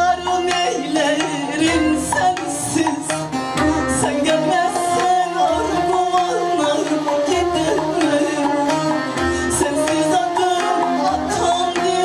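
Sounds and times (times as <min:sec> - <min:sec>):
hand drum beat: 0:00.0 - 0:12.0
long-necked lute: 0:00.0 - 0:12.0
woman singing folk song: 0:00.0 - 0:12.0.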